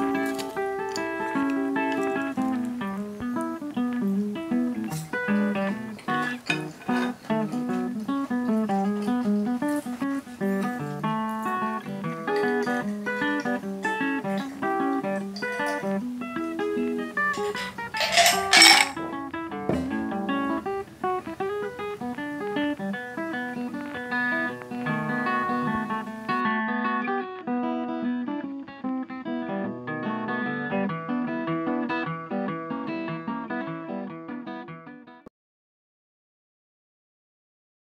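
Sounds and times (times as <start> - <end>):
plucked guitar music with bass: 0.0 - 35.2.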